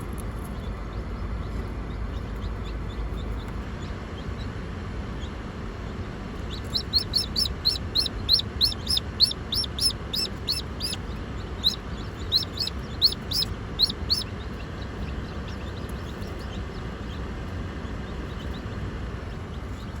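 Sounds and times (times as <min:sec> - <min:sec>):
low background rumble: 0:00.0 - 0:20.0
chick peeping: 0:00.4 - 0:20.0.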